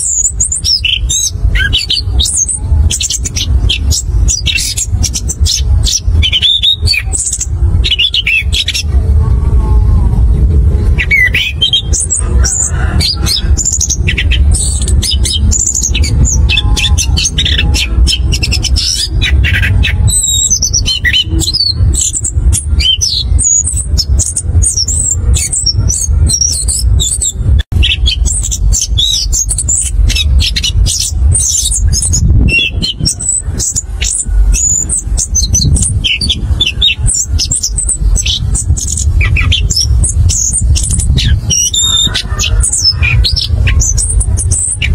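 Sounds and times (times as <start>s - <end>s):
low rumble: 0.0s - 44.9s
thrush singing: 0.0s - 44.9s.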